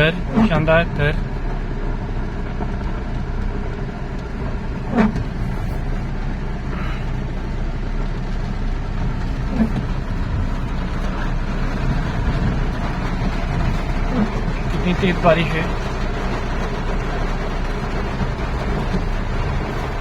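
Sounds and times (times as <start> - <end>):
car engine running: 0.0 - 20.0
rain on car: 0.0 - 20.0
tyres on wet road: 0.0 - 20.0.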